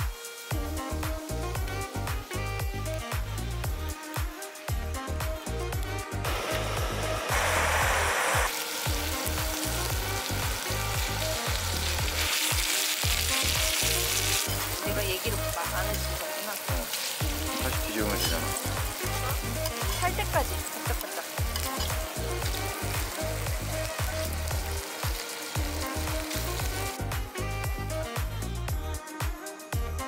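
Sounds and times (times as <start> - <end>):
chicken sizzling on a griddle: 0.0 - 4.7, 6.2 - 28.3.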